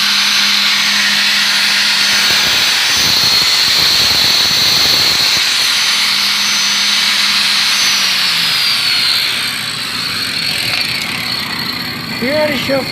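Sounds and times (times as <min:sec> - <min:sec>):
rough grating sound: 0:00.0 - 0:12.7
power tool whining: 0:00.0 - 0:12.9.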